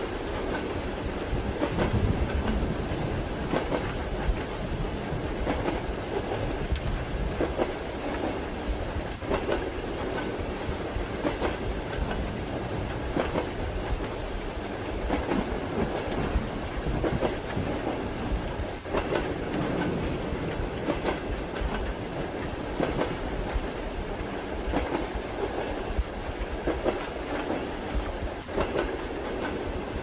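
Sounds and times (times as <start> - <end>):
steady rain: 0.0 - 30.0
train wheels rumbling on rails: 0.0 - 30.0.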